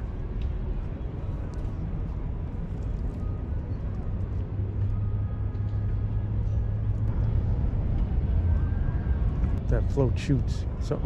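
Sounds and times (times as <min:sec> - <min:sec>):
distant city traffic rumble: 0:00.0 - 0:11.0.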